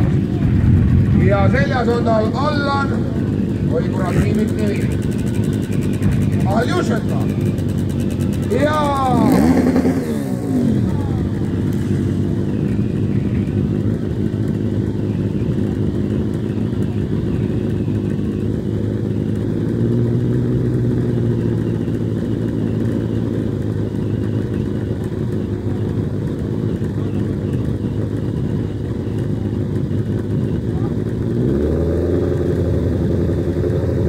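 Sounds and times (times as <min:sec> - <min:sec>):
motorcycle engine running hard: 0:00.0 - 0:34.0.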